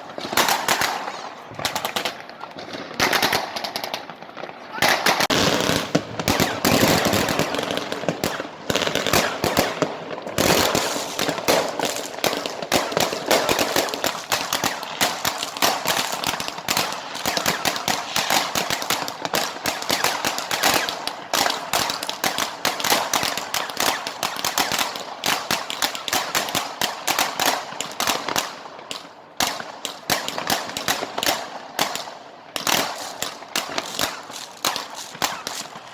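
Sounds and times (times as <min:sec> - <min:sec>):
fireworks and firecrackers crackling: 0:00.0 - 0:35.9.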